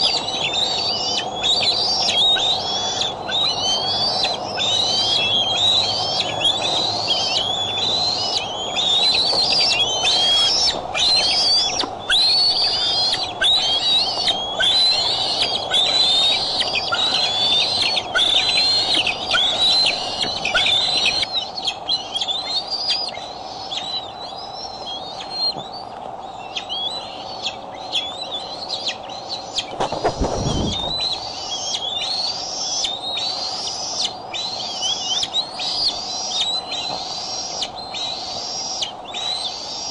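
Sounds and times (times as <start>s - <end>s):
eagle calling in high whistles: 0.0s - 39.9s
steady low hum: 0.0s - 39.9s.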